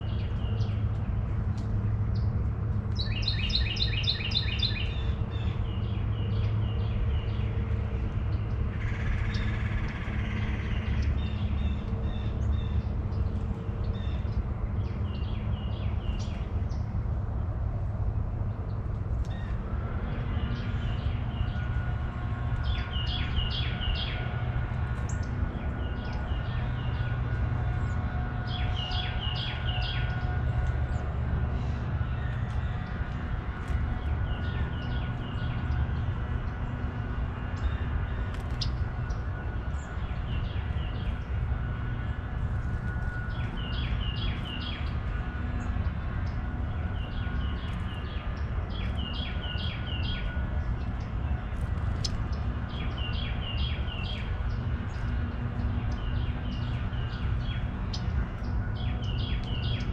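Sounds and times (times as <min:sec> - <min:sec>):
songbirds chirping: 0:00.0 - 0:59.9
steady low hum: 0:00.0 - 0:59.9.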